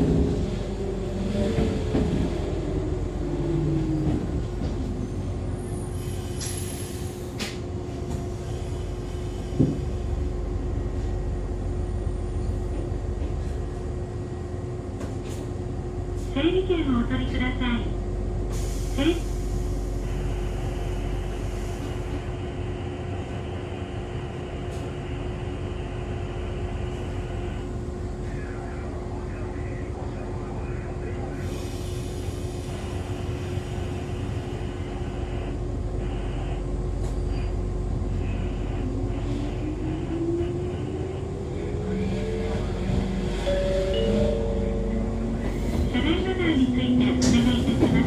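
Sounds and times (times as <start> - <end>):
train interior rumble and hum: 0.0 - 48.0.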